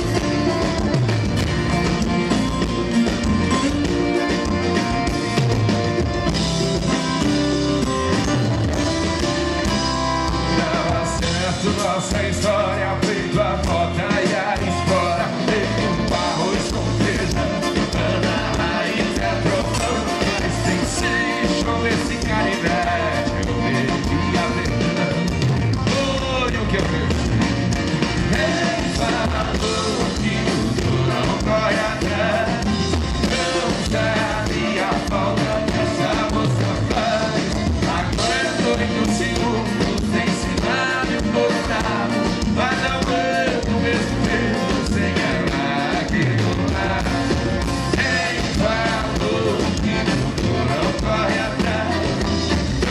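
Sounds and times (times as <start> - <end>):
bass: 0.0 - 52.9
drums: 0.0 - 52.9
duo singing: 0.0 - 52.9
guitars: 0.0 - 52.9.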